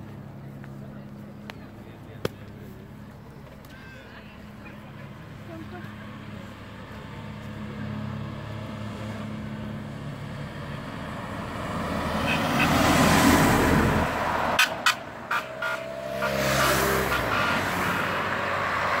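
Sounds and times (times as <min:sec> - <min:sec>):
vehicles driving slowly past: 0:00.0 - 0:19.0.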